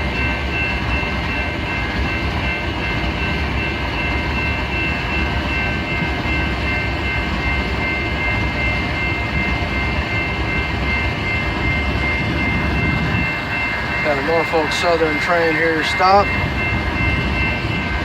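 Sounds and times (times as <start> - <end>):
freight train rumbling: 0.0 - 18.0
high-pitched metallic whine: 0.0 - 18.0.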